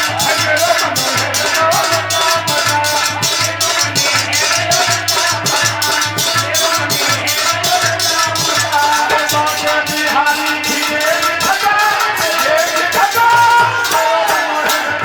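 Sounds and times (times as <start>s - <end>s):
devotional music with drums: 0.0s - 15.0s.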